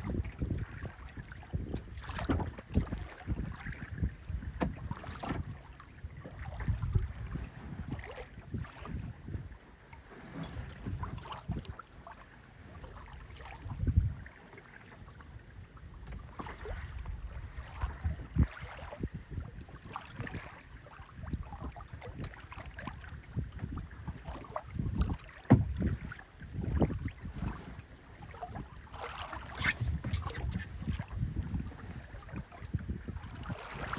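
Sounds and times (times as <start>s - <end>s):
wind buffeting microphone: 0.0s - 11.9s, 12.6s - 14.3s, 15.1s - 33.9s
water noise: 0.0s - 33.9s.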